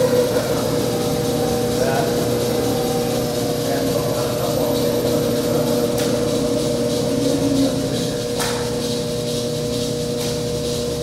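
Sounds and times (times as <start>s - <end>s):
motor and gearbox hum: 0.0s - 11.0s.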